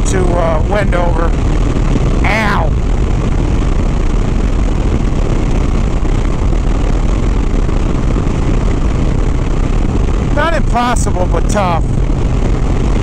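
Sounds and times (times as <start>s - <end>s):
motorcycle engine rumbling: 0.0s - 13.0s
wind rush on microphone: 0.0s - 13.0s.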